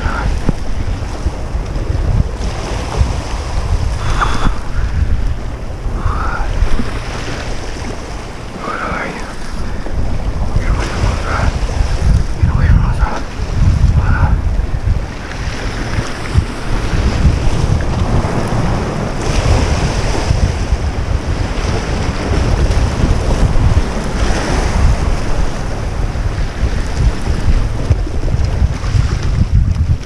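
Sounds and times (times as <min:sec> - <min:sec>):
waves splashing against rocks: 0:00.0 - 0:30.0
wind buffeting microphone: 0:00.0 - 0:30.0.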